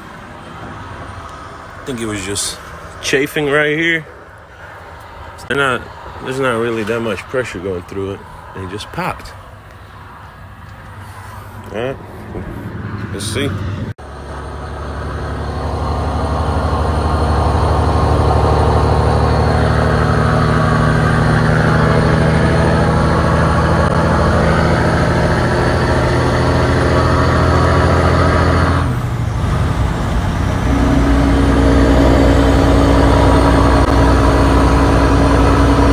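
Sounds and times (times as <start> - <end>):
diesel truck engine: 0.0 - 35.9.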